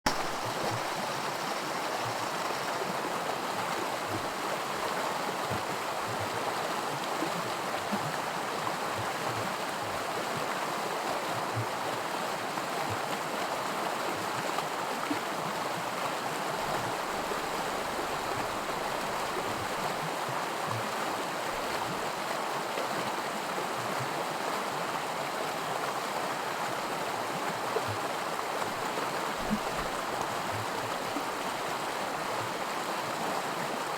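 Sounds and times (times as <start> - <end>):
creek water rushing over rapids: 0.1 - 33.9.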